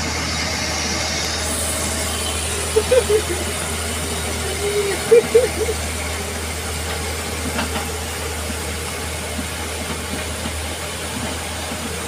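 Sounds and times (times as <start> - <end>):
diesel engine idling: 0.0 - 12.0
floodwater rushing hiss: 0.2 - 11.8.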